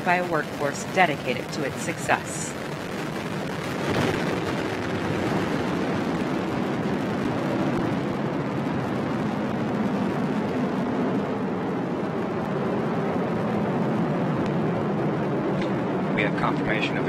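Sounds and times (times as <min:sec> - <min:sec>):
rocket launch rumble: 0:00.0 - 0:17.0.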